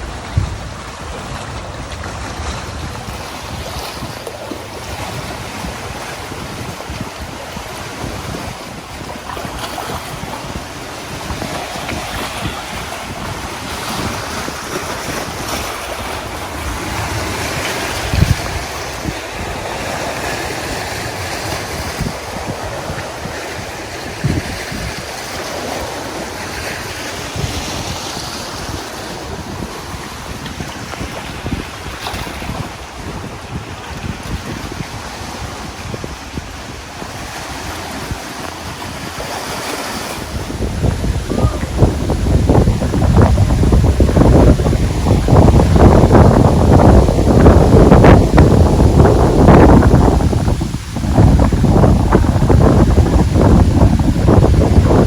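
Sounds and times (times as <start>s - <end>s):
rushing water: 0.0s - 55.0s
wind buffeting microphone: 0.0s - 55.0s.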